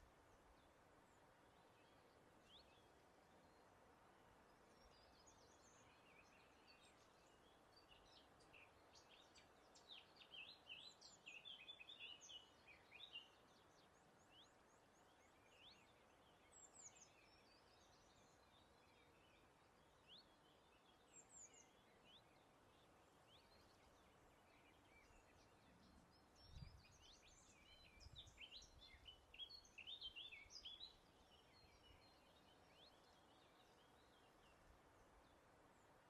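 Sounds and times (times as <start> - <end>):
soft steady background hiss: 0.0 - 36.0.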